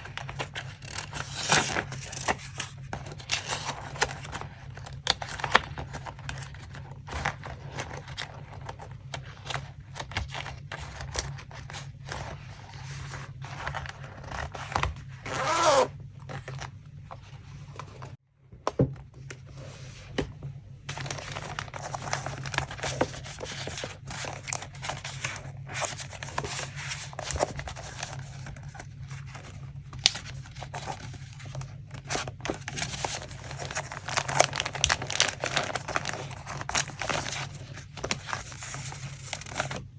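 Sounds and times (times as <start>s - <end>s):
paper rustling and crinkling: 0.0s - 18.2s, 18.8s - 39.9s.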